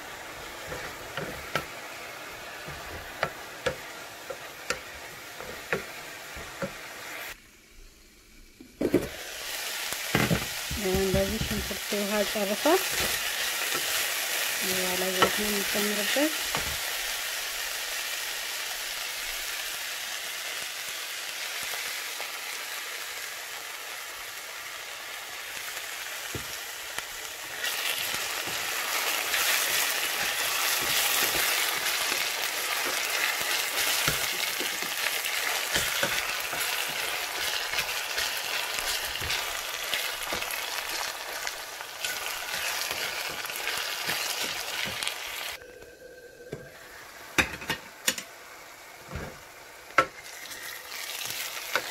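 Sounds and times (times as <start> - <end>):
onions sizzling in a pan: 0.0 - 51.9.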